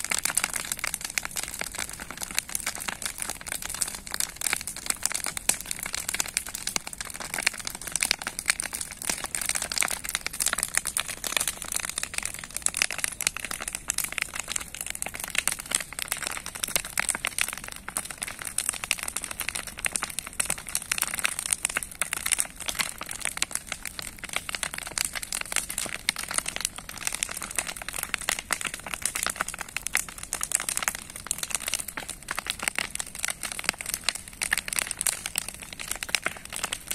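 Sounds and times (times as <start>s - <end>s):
bonfire crackling: 0.0s - 36.9s.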